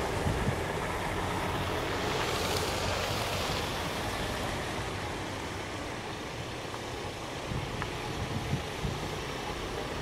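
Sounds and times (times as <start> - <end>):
car engine hum: 0.0 - 10.0
tyres hissing through slush: 0.0 - 10.0.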